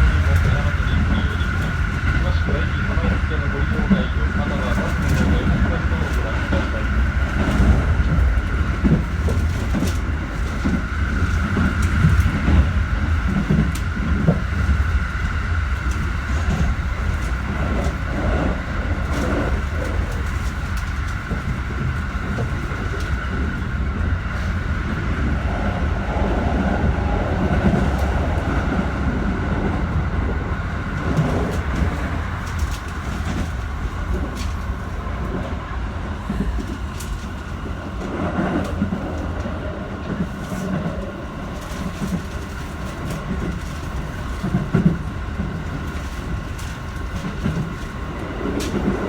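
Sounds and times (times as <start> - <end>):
rail clicks: 0.0 - 49.0
train wheels rumbling on track: 0.0 - 49.0
train whine: 0.0 - 49.0.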